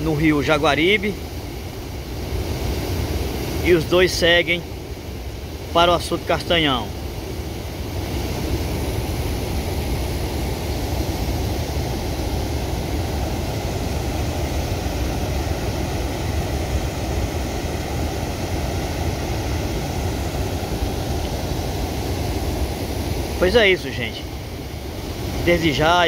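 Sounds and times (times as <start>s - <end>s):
water rushing over weir: 0.0s - 26.0s.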